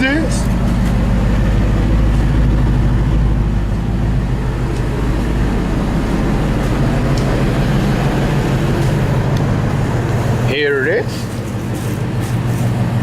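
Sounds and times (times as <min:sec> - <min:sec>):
engine running through loud exhaust: 0:00.0 - 0:13.0.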